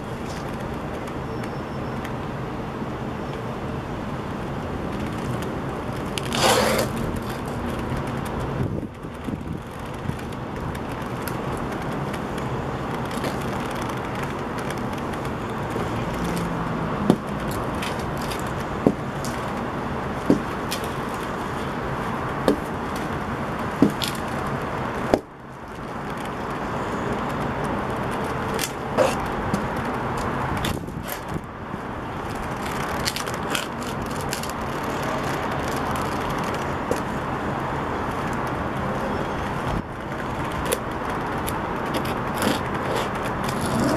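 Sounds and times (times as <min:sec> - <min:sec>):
city traffic noise: 0:00.0 - 0:43.9.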